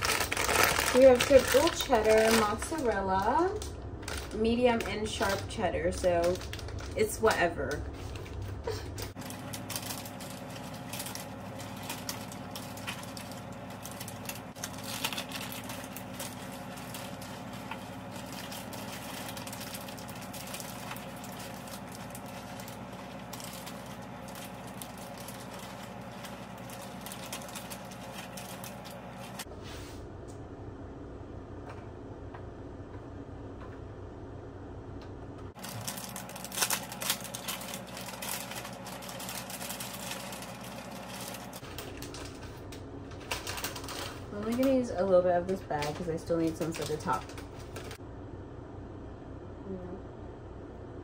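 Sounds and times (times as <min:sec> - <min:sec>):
plastic bags crinkling: 0:00.0 - 0:29.5, 0:35.6 - 0:48.0
steady hum: 0:00.0 - 0:51.0.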